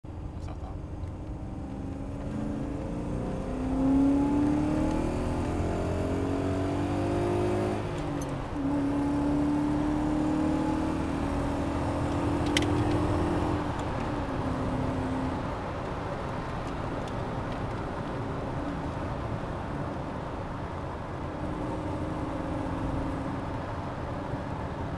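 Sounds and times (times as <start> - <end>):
car engine revving: 0.5 - 17.1, 21.3 - 24.7.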